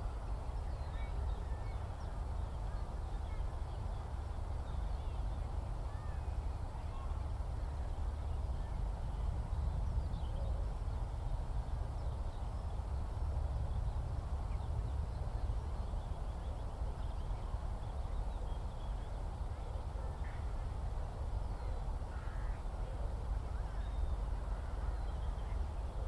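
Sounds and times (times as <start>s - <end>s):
faint birdsong chirps: 0.0s - 26.0s
low countryside rumble: 0.0s - 26.0s.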